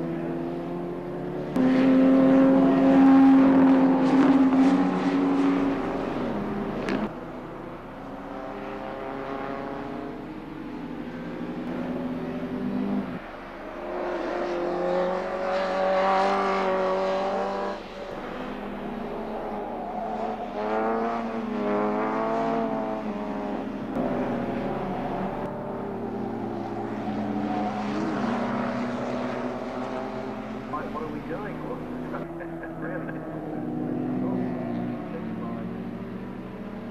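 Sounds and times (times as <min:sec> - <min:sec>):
race car engines revving and passing: 0:00.0 - 0:36.9.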